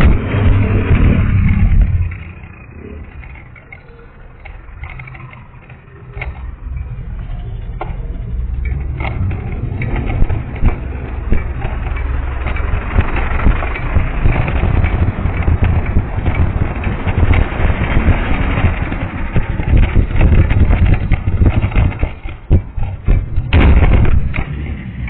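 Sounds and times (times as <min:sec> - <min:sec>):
flat tyre knocking and slapping: 0:00.0 - 0:25.0
low road rumble: 0:00.0 - 0:25.0.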